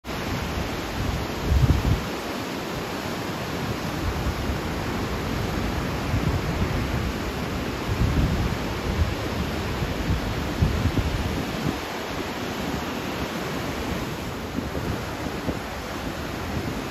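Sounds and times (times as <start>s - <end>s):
ocean surf rushing: 0.0s - 16.9s
wind buffeting microphone: 0.2s - 2.2s, 3.6s - 16.9s.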